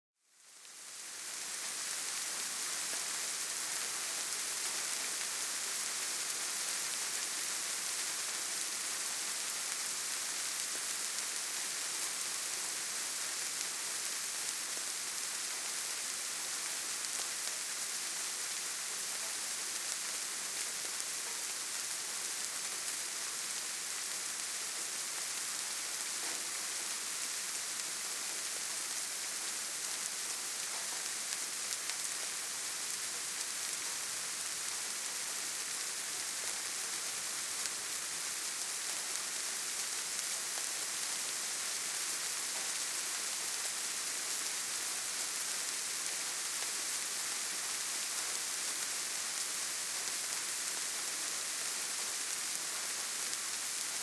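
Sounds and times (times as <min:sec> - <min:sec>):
steady rain hiss: 0:00.2 - 0:54.0.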